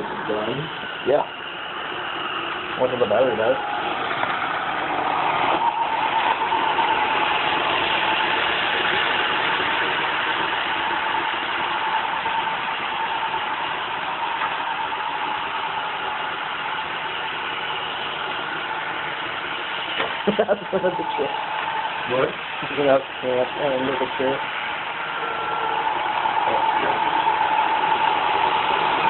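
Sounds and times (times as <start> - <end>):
robot vacuum whirring: 0.0 - 29.0
steady whine: 0.0 - 29.0.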